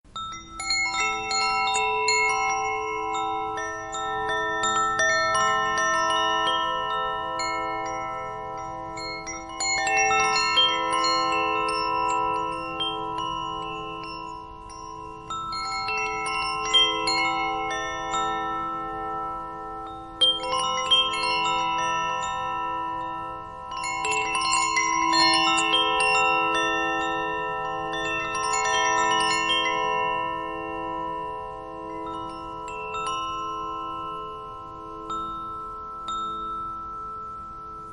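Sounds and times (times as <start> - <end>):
chimes ringing: 0.1 - 37.9.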